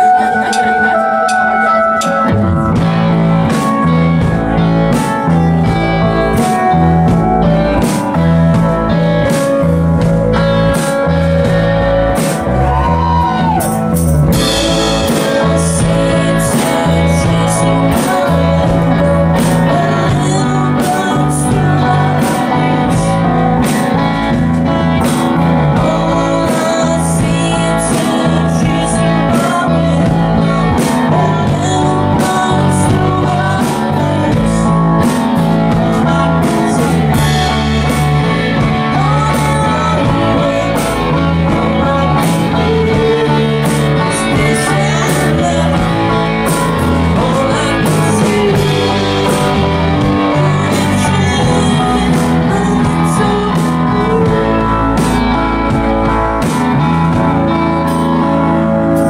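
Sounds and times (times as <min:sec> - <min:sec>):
drum kit beat: 0:00.0 - 0:59.0
electric bass: 0:00.0 - 0:59.0
electric guitar: 0:00.0 - 0:59.0
keyboard: 0:00.0 - 0:59.0
person singing: 0:00.0 - 0:59.0.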